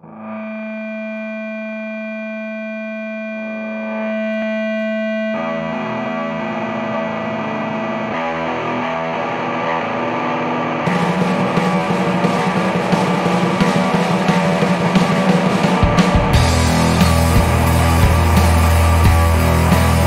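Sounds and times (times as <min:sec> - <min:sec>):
distorted electric guitar chord: 0:00.0 - 0:20.0
punk rock music: 0:00.2 - 0:20.0.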